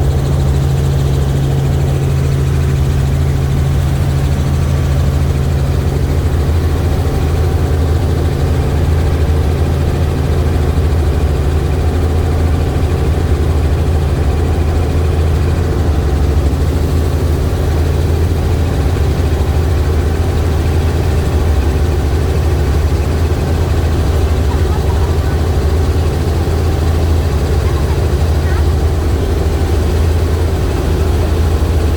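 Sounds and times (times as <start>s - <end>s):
helicopter engine and rotor: 0.0s - 31.9s.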